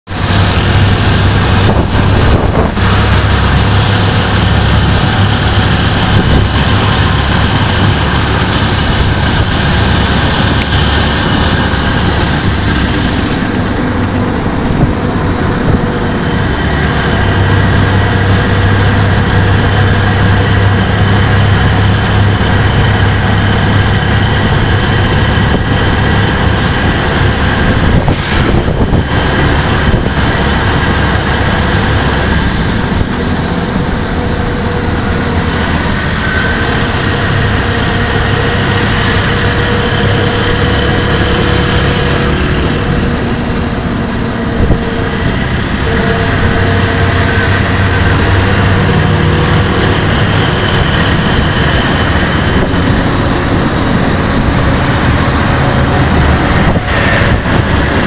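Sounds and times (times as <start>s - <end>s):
vehicle engine and road noise: 0.0s - 58.0s
low hum: 0.1s - 58.0s.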